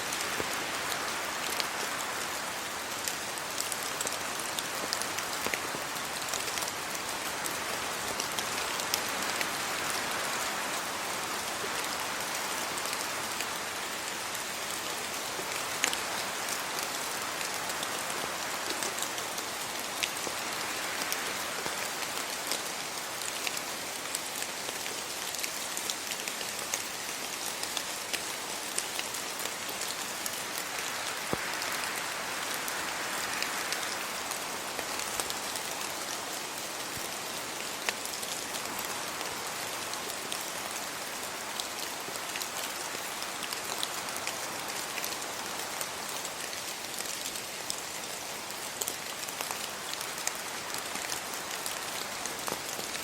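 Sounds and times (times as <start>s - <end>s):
steady rain falling: 0.0s - 53.0s
wind in tree leaves: 0.0s - 53.0s.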